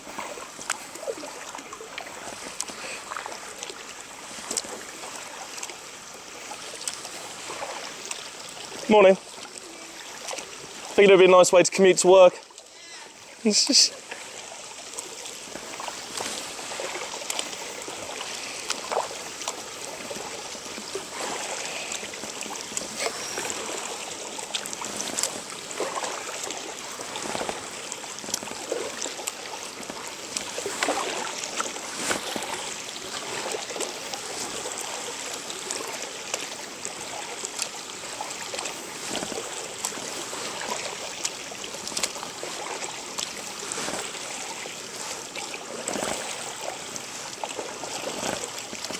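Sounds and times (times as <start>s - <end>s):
paddle splashing in water: 0.0s - 48.9s
water drips: 0.0s - 48.9s.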